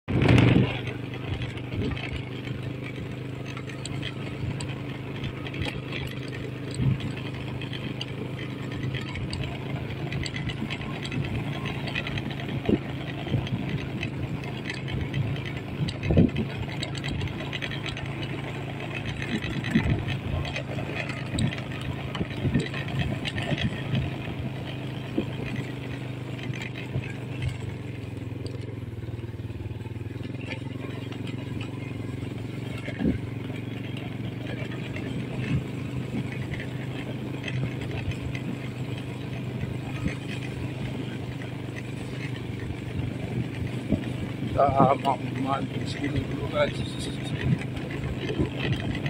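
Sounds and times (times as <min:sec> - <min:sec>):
small motorcycle engine running: 0:00.0 - 0:49.0
motorcycle rattling and knocking: 0:00.1 - 0:49.0.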